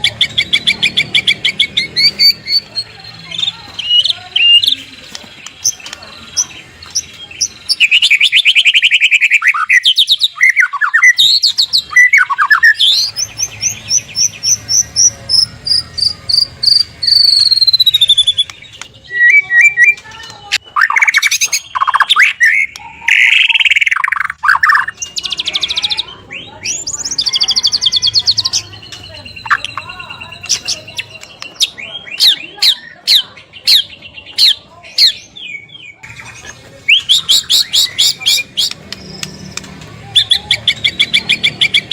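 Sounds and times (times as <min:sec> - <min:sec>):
shama bird singing: 0:00.0 - 0:41.9.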